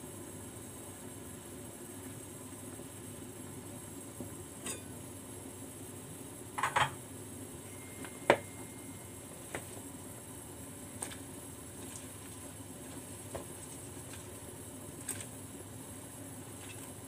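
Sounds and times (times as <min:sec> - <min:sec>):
water boiling: 0:00.0 - 0:07.7, 0:08.9 - 0:17.0.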